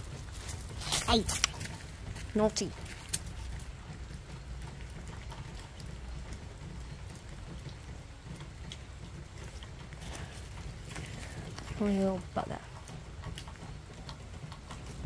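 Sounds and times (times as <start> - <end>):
light rain on gravel: 0.0 - 15.0.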